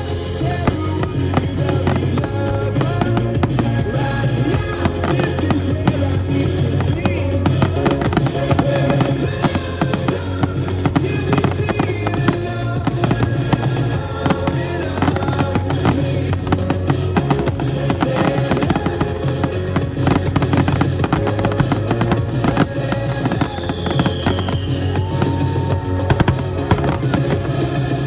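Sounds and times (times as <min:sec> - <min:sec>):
fireworks bangs and crackles: 0:00.0 - 0:28.0
music with steady beat: 0:00.0 - 0:28.0.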